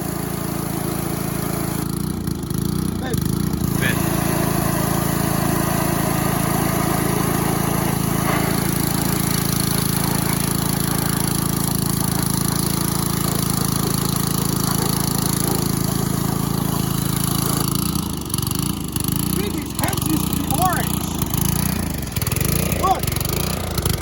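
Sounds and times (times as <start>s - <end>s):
pressure washer engine drone: 0.0s - 24.0s
water spray hissing: 3.6s - 23.5s.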